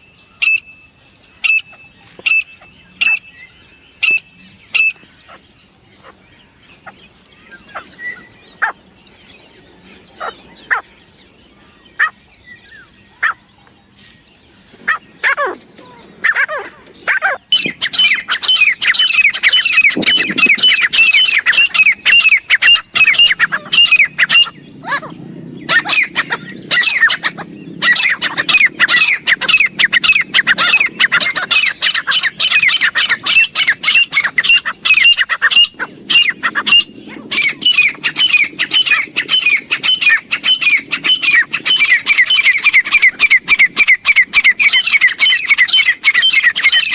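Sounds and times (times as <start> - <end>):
francolin calling: 0.0 - 46.9.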